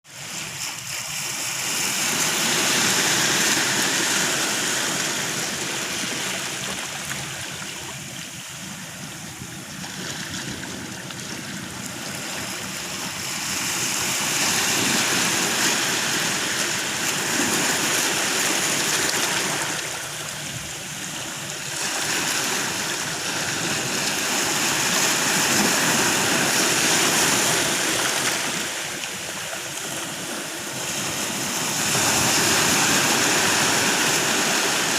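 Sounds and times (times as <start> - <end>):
ocean waves breaking: 0.1 - 34.9.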